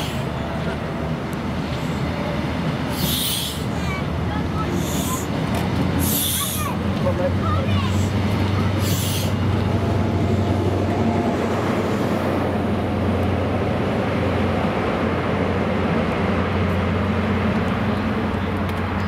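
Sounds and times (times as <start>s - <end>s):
diesel train engine drone: 0.0s - 19.0s
wheels rumbling on rail: 0.0s - 19.0s.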